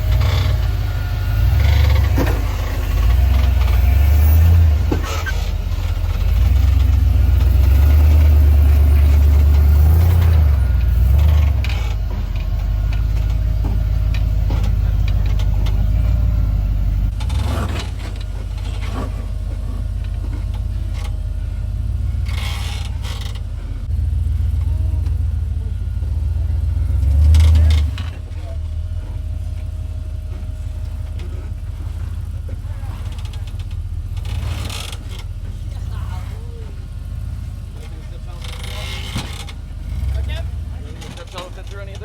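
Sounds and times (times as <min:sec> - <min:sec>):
off-road vehicle engine rumbling: 0:00.0 - 0:42.0.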